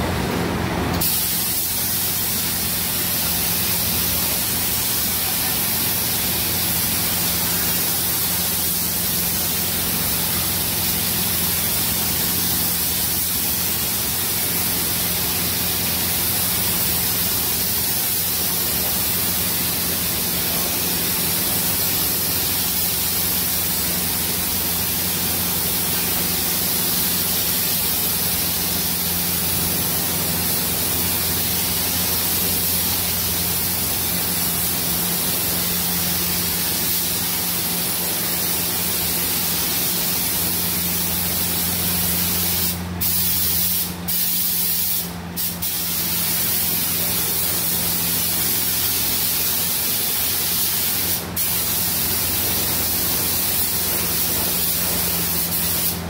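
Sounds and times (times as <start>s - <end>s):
paint spray gun hissing: 1.0s - 56.0s.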